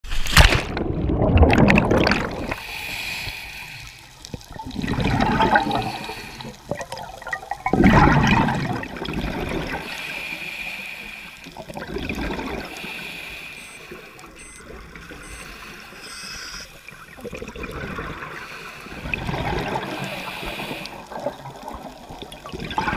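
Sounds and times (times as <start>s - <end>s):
underwater bubbling water: 0.6s - 22.9s.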